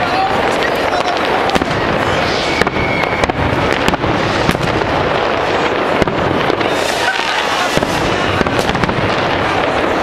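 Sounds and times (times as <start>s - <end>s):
fireworks bangs and crackles: 0.0s - 10.0s
firework whistle: 0.9s - 10.0s.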